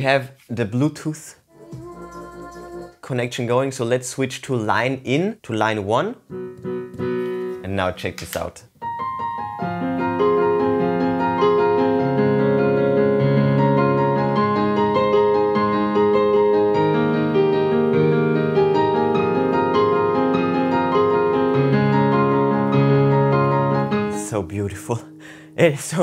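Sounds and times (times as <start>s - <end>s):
piano chords and melody: 1.5s - 3.1s, 6.3s - 26.0s.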